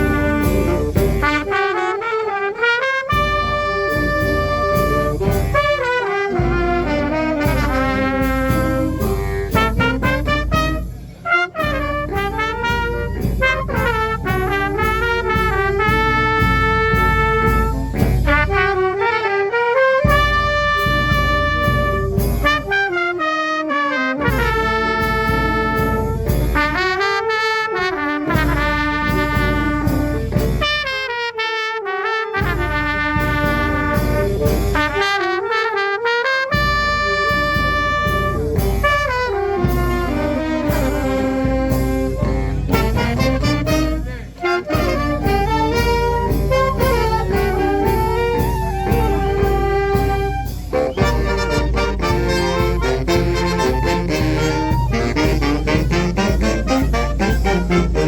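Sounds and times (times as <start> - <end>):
pulsing drum beat: 0.0 - 1.6, 3.1 - 19.0, 20.1 - 22.8, 24.2 - 27.1, 27.9 - 30.9, 32.4 - 35.1, 36.6 - 58.0
brass fanfare band playing: 0.0 - 58.0.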